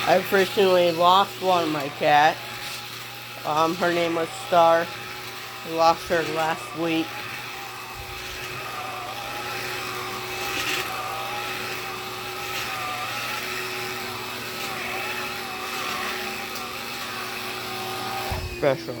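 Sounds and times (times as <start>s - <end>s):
vacuum cleaner motor whine: 0.0s - 19.0s.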